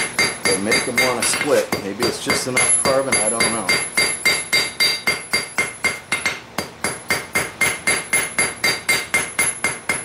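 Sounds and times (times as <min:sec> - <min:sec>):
hammer striking metal on anvil: 0:00.0 - 0:10.0.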